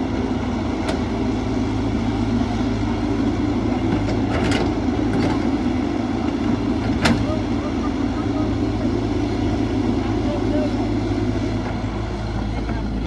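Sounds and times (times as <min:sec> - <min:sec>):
excavator diesel engine humming: 0:00.0 - 0:13.0.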